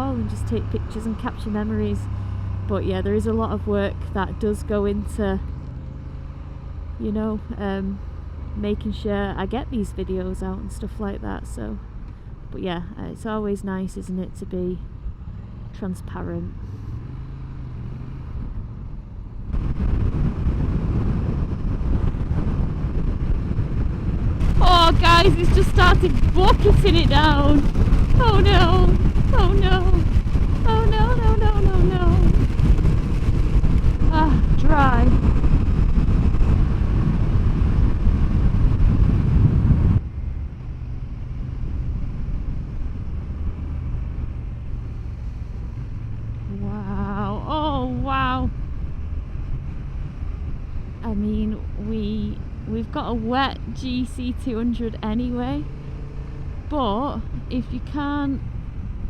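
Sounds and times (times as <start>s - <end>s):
motorcycle engine rumble: 0.0s - 59.0s
rushing wind and road noise: 0.0s - 59.0s.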